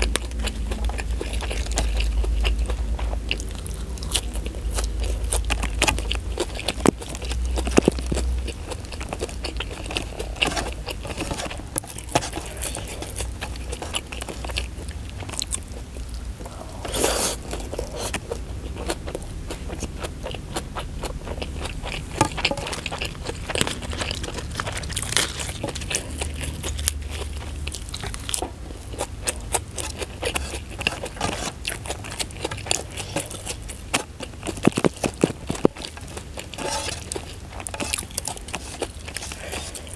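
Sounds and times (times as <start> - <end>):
close chewing and crunching: 0.0 - 39.9.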